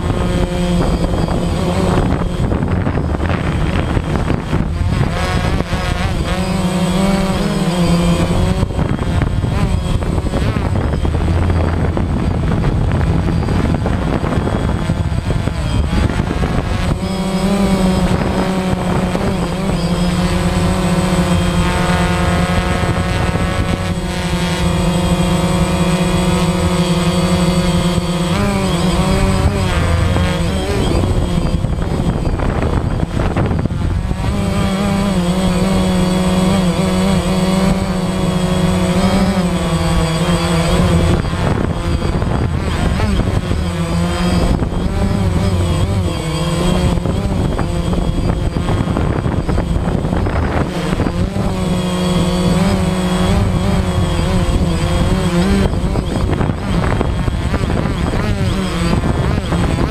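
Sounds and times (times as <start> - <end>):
drone propellers whining: 0.0 - 59.9
rough rushing noise: 0.0 - 59.9.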